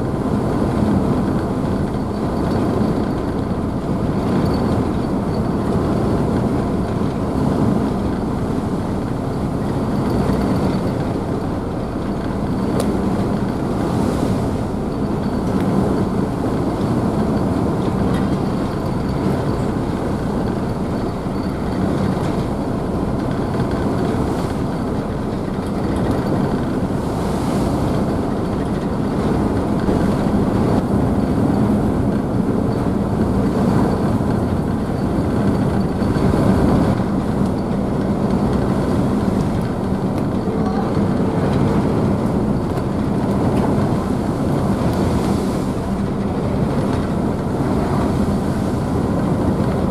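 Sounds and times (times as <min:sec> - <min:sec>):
ship engines humming: 0:00.1 - 0:49.9.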